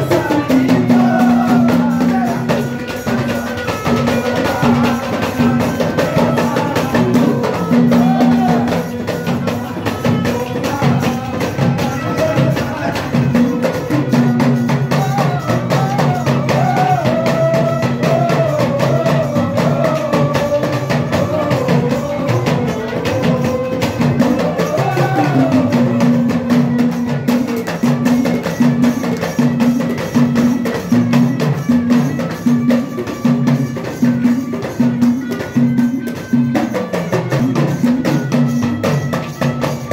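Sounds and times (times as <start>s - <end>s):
busy percussion strokes: 0.0s - 39.9s
devotional music: 0.0s - 39.9s.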